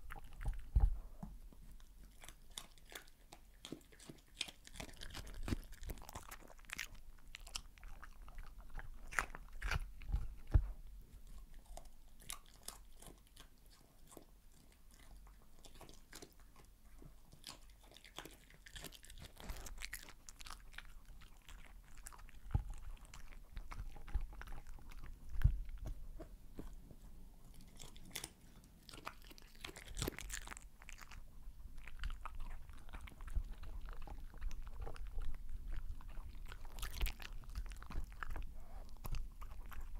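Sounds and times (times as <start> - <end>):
dog chewing and licking food: 0.0 - 39.9.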